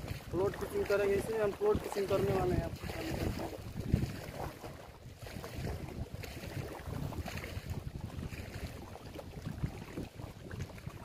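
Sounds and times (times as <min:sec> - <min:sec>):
waves lapping on rocky shore: 0:00.0 - 0:11.0
wind buffeting microphone: 0:00.0 - 0:11.0.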